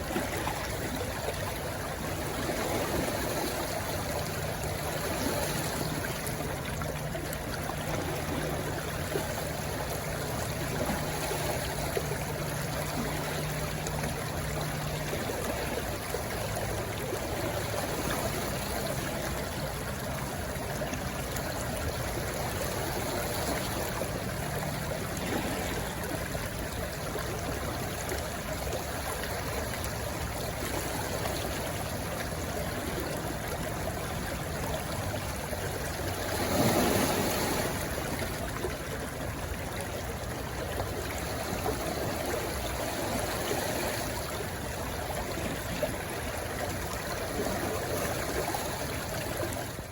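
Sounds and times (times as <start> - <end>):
stream rushing over stones: 0.0 - 49.9.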